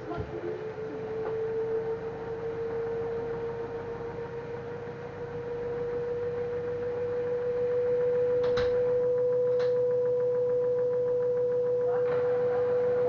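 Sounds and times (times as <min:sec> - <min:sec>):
washing machine motor whining: 0:00.0 - 0:13.0.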